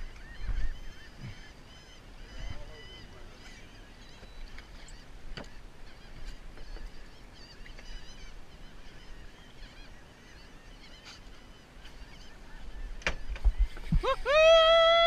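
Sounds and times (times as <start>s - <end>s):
seabirds calling: 0.0s - 15.0s.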